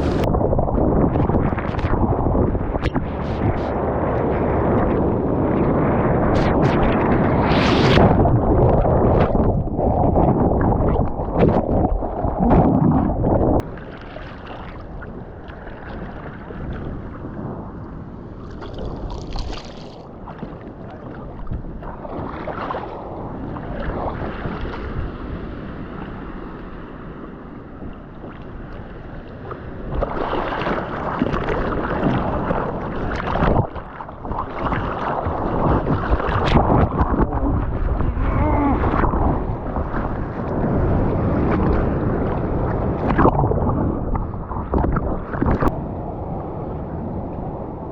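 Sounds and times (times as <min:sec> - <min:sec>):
ocean water rushing: 0:00.0 - 0:47.9
wind buffeting microphone: 0:00.0 - 0:47.9.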